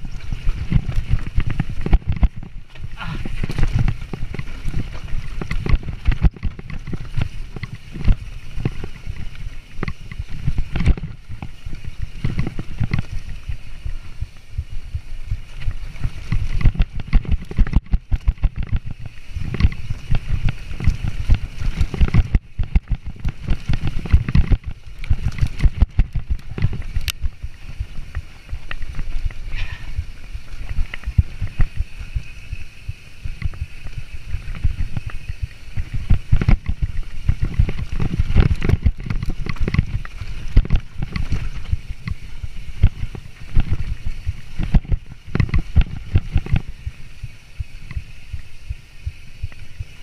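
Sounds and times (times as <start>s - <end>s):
bike rattling over roots: 0.0s - 50.0s
wind rumbling on microphone: 0.0s - 50.0s.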